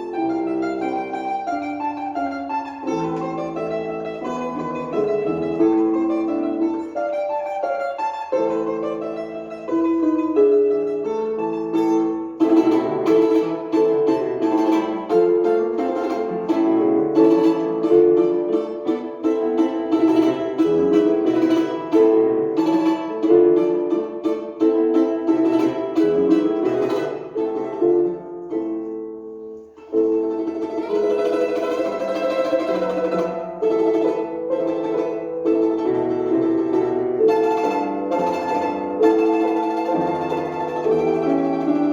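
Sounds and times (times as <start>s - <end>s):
plucked string instruments: 0.0s - 41.9s.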